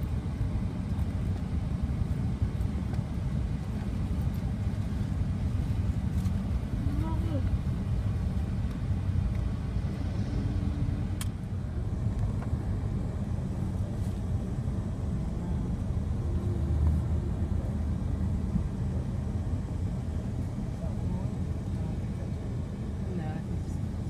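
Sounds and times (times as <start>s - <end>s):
car driving low rumble: 0.0s - 24.0s.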